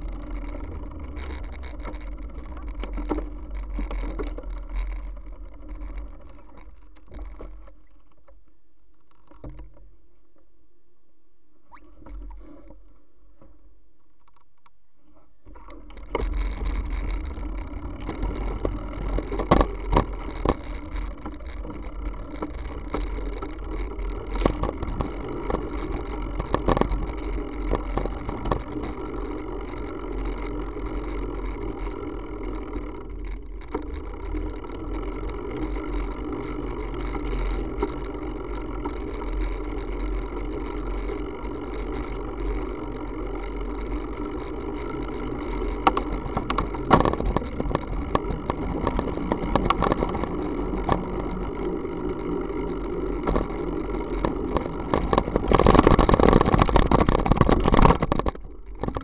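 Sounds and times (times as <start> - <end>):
bicycle road noise on wet road: 0.0 - 10.0, 15.4 - 59.0
steady hum: 0.0 - 59.0.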